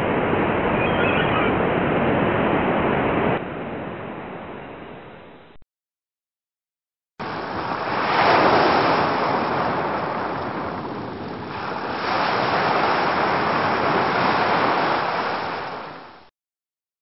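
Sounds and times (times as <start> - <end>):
ocean waves breaking on shore: 0.0 - 4.6, 7.2 - 16.3.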